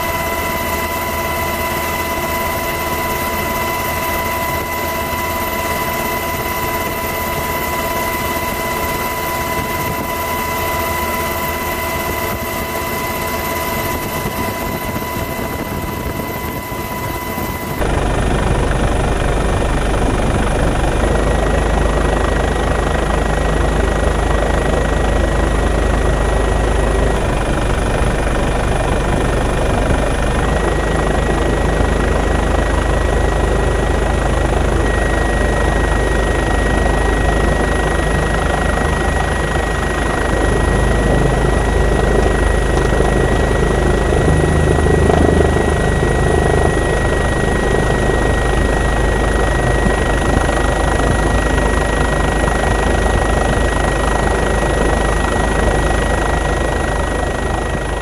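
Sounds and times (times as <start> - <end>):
helicopter noise from aboard: 0.0 - 58.0.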